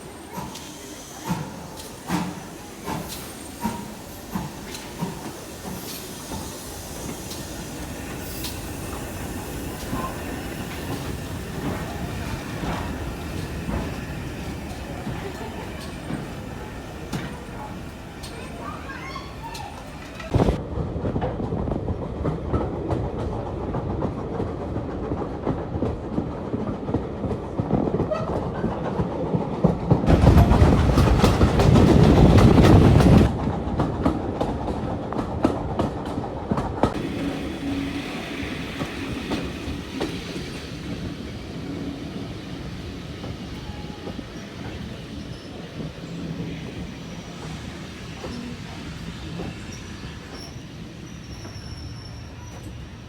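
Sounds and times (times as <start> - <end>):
train wheels clicking over rails: 0.0 - 21.4, 22.2 - 53.0.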